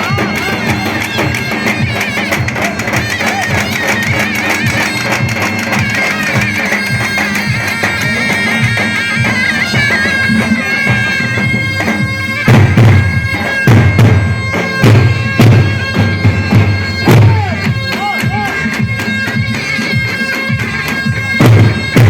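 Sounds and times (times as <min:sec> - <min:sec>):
drum beat: 0:00.0 - 0:22.0
high reed pipe melody: 0:00.0 - 0:22.0.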